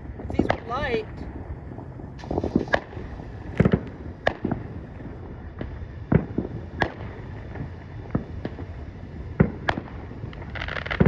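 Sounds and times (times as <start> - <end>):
firework pops and bangs: 0.0 - 11.0.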